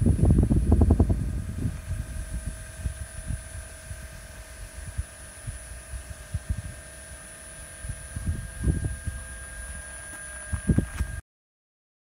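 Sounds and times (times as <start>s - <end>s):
wind rumble on microphone: 0.0s - 7.0s, 7.6s - 9.8s, 10.4s - 11.2s
faint electric whine: 0.0s - 11.2s.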